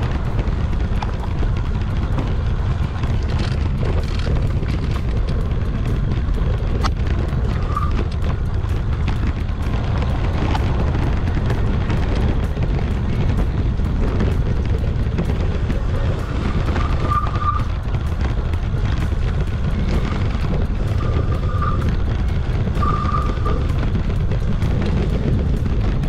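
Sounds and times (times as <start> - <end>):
bike rattles and clicks: 0.0 - 26.0
tyres rolling over ground: 0.0 - 26.0
wind buffeting camera: 0.0 - 26.0.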